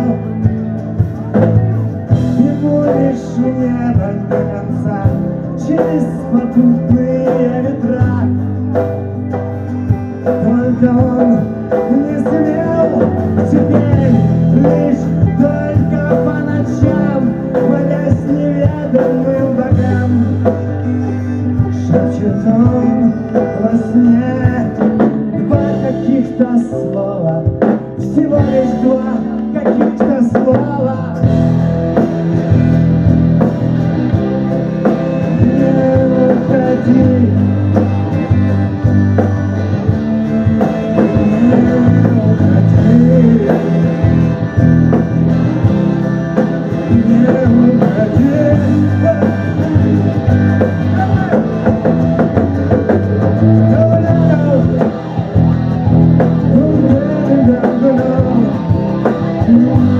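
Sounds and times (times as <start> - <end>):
person singing: 0.0 - 33.1, 34.1 - 59.9
bass line: 0.0 - 59.9
guitar: 0.0 - 59.9.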